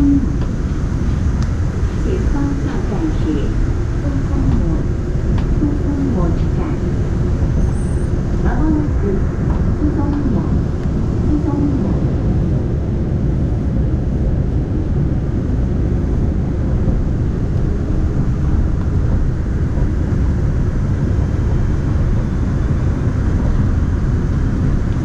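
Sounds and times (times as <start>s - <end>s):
monorail car rumble: 0.0s - 25.0s.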